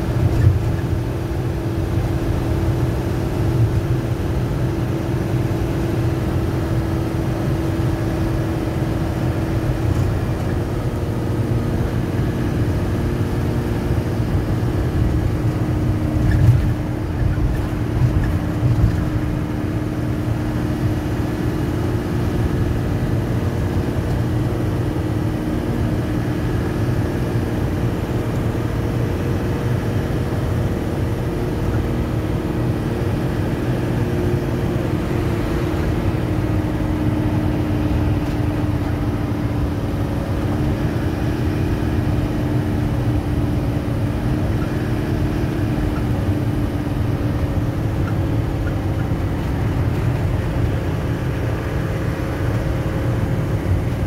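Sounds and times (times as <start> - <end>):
engine and road noise in cabin: 0.0 - 54.0.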